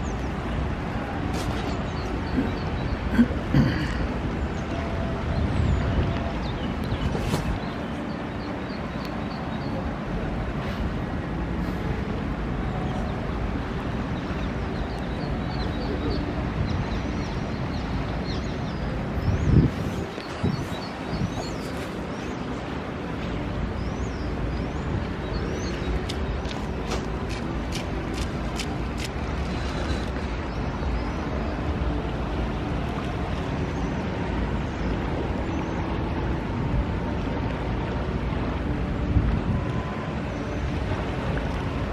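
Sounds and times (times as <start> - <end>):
city traffic rumble: 0.0 - 41.9
river rushing: 0.0 - 41.9.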